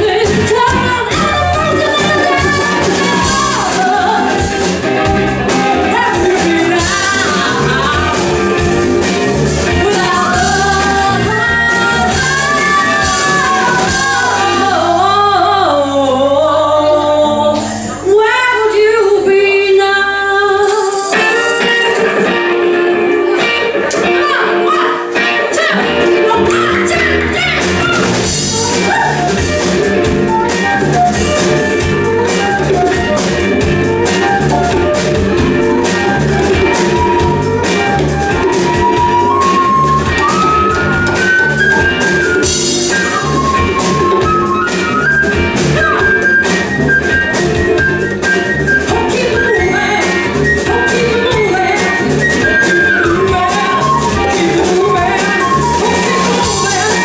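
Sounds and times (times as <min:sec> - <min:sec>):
congas: 0:00.0 - 0:14.6, 0:25.5 - 0:57.0
drum kit groove: 0:00.0 - 0:15.0, 0:25.0 - 0:57.0
electric guitar: 0:00.0 - 0:57.0
flute lead melody: 0:00.2 - 0:14.9, 0:24.6 - 0:57.0.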